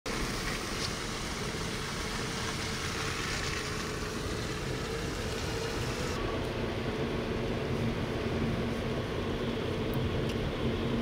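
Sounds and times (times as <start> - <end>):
road and tyre noise: 0.0 - 11.0.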